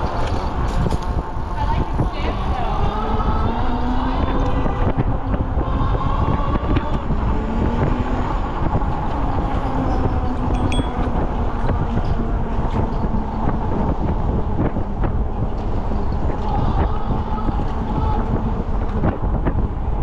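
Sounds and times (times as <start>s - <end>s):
road and traffic noise: 0.0s - 20.0s
wind rumbling on microphone: 0.0s - 20.0s.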